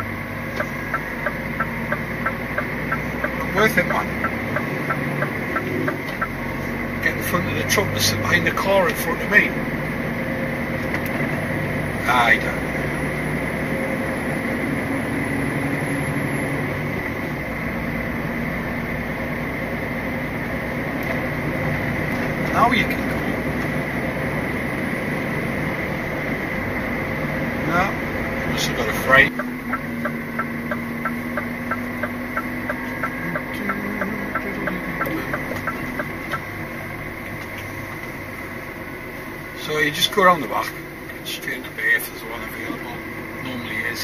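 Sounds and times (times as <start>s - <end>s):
diesel lorry engine running: 0.0s - 44.0s
road and cab noise: 0.0s - 44.0s
turn signal ticking: 0.0s - 44.0s.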